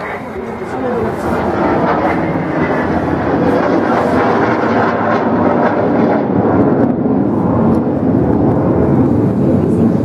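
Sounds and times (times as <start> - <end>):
jet aircraft roaring overhead: 0.0 - 10.0.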